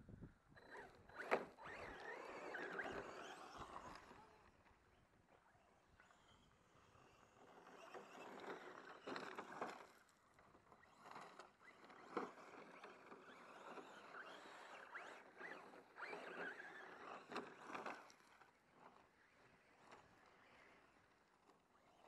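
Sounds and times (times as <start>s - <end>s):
toy truck electric motor whining: 0.6s - 4.6s, 5.5s - 22.0s.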